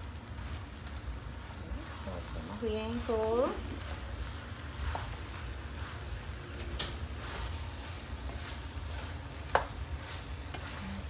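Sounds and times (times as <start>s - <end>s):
wooden spoon scraping metal pan: 1.8s - 11.0s.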